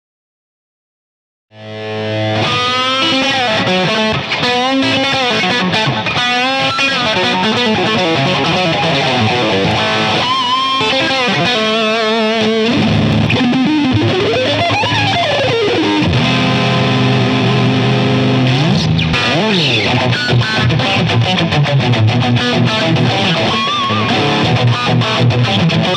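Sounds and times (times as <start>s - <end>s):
electric guitar solo: 1.6s - 25.9s.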